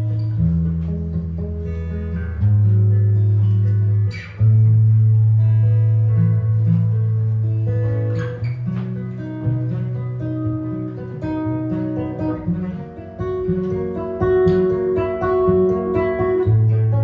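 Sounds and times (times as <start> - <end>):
jazz guitar playing: 0.0 - 17.0.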